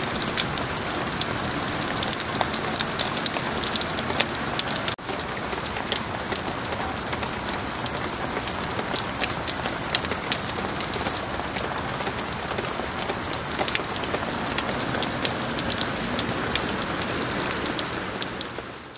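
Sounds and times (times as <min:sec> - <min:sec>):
rain falling on standing water: 0:00.0 - 0:18.9.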